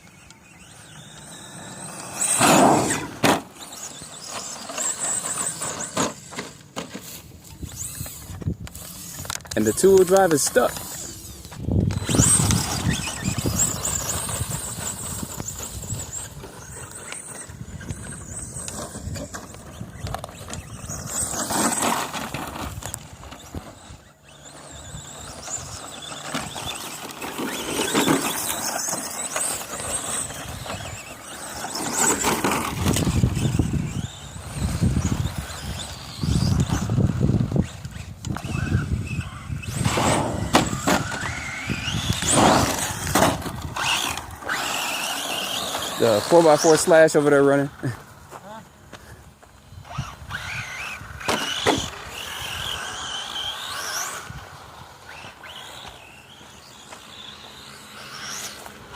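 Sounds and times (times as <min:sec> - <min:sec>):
electric motor whine: 0:00.0 - 0:58.9
tyres spinning on dirt: 0:00.0 - 0:58.9.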